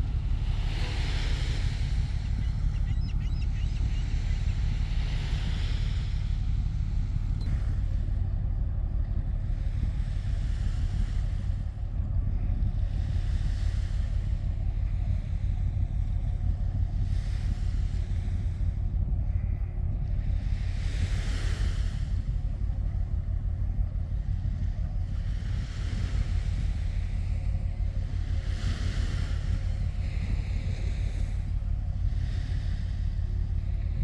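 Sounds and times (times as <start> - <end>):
cargo ship low rumble: 0.0 - 34.0.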